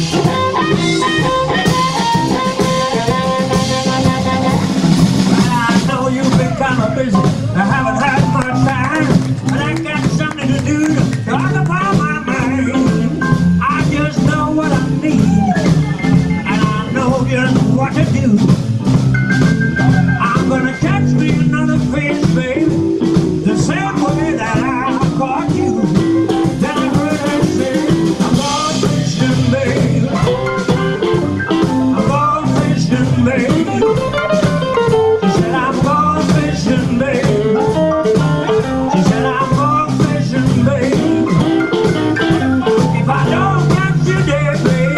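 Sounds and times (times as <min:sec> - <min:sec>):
man singing: 0:00.0 - 0:18.7, 0:19.8 - 0:44.9
double bass: 0:00.0 - 0:44.9
drums: 0:00.0 - 0:44.9
electric guitar: 0:00.0 - 0:44.9.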